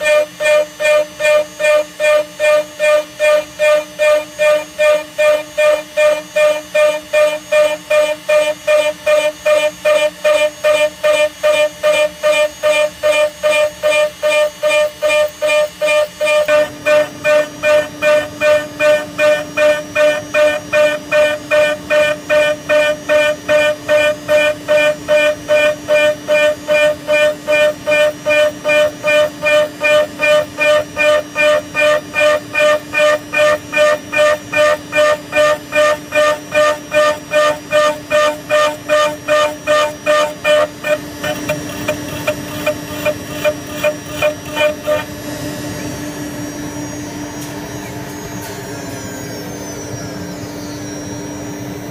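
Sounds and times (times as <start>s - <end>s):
router spindle whine cutting steel: 0.0s - 51.9s.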